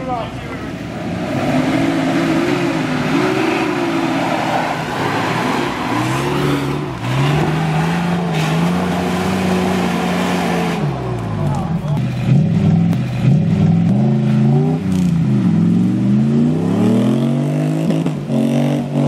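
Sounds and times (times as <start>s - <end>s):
off-road engines revving: 0.0s - 19.0s.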